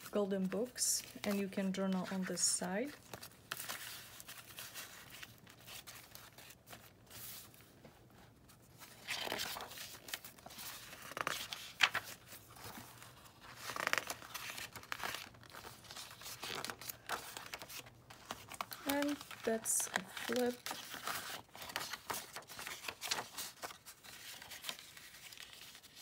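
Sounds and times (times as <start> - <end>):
paper pages turning and rustling: 0.0 - 26.0.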